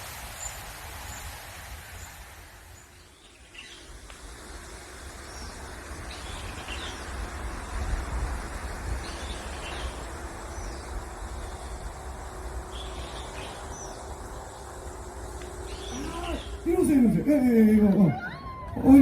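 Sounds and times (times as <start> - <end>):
small birds chirping: 0.0 - 18.0
steady hiss: 0.0 - 18.1.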